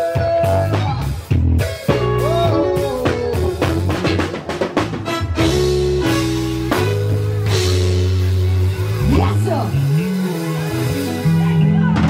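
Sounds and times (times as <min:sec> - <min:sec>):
drum kit beat: 0:00.0 - 0:12.0
pitch-bending guitar or keyboard: 0:00.0 - 0:12.0
sustained bass notes: 0:00.0 - 0:12.0.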